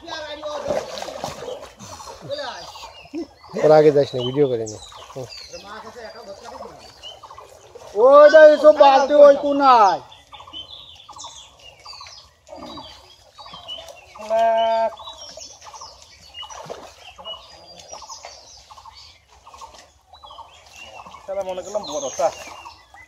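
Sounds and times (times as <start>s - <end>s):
birds calling and chirping: 0.0s - 23.0s.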